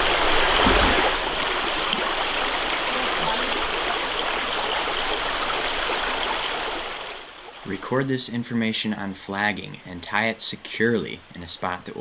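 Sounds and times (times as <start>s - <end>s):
creek water running over gravel: 0.0s - 12.0s.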